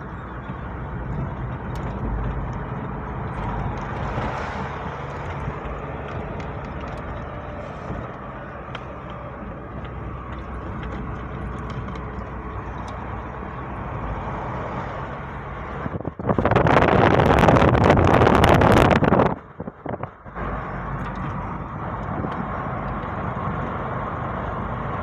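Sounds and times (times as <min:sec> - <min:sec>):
car driving on road: 0:00.0 - 0:25.0.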